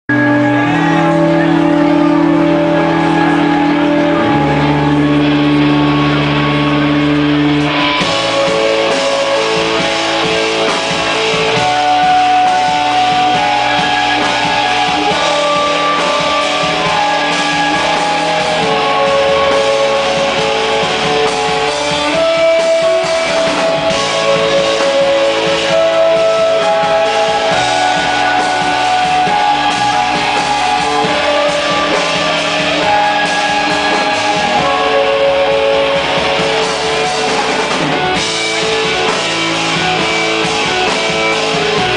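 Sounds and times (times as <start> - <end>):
keyboard melody: 0.0 - 41.9
drum kit with cymbals: 0.1 - 41.9.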